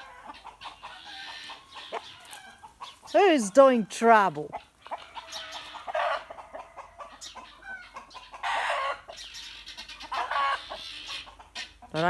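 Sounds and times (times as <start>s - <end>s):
chickens clucking: 0.0s - 12.0s
chickens squawking: 0.0s - 12.0s.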